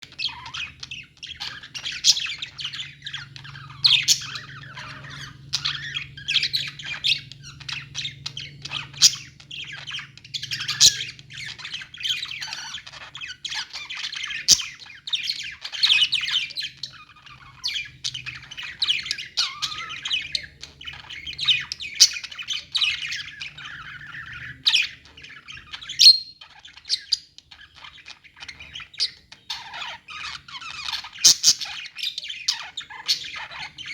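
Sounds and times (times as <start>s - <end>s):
budgerigars chirping and squawking: 0.0s - 33.9s.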